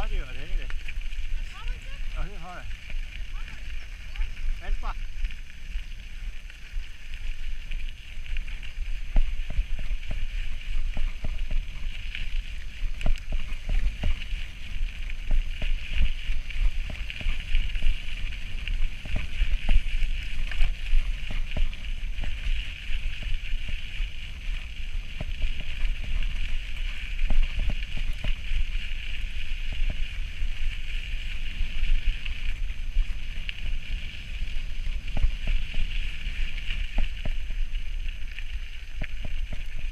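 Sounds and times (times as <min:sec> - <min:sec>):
bike tyre hiss on gravel: 0:00.0 - 0:39.9
deep wind rumble: 0:00.0 - 0:39.9
gravel clicks and rattles: 0:00.0 - 0:39.9.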